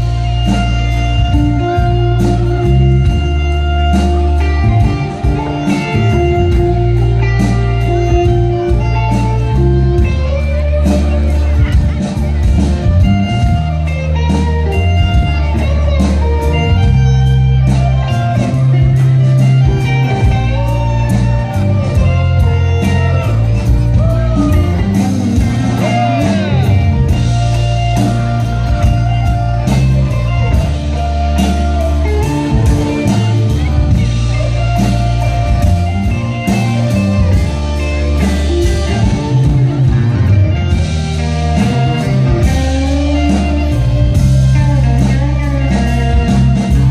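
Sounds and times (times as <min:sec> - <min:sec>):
bending guitar lines: 0:00.0 - 0:46.9
live blues-rock band playing: 0:00.0 - 0:46.9.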